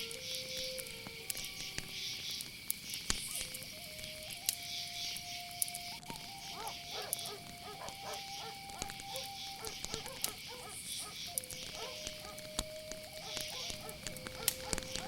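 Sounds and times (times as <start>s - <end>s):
campfire crackling: 0.0s - 15.0s
crickets trilling: 0.0s - 15.0s.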